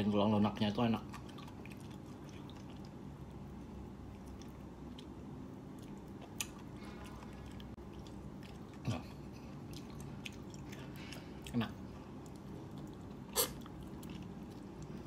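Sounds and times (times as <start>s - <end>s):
person chewing meat: 0.9s - 15.0s.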